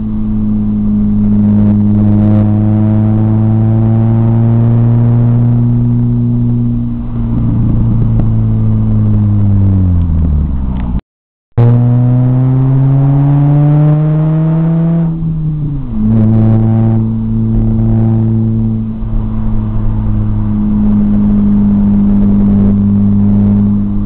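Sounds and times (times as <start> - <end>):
car engine revving and droning: 0.0 - 11.0, 11.6 - 24.0.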